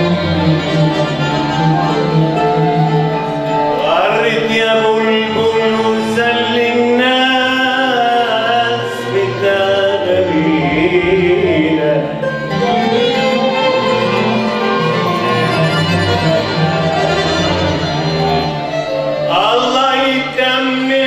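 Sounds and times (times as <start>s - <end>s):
orchestra with violins: 0.0s - 21.0s.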